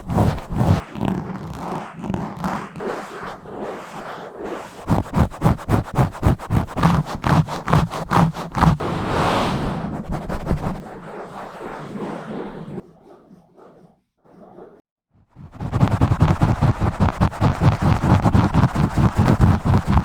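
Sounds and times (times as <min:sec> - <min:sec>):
scratching on microphone grille: 0:00.0 - 0:09.0, 0:09.8 - 0:14.8, 0:15.4 - 0:20.0.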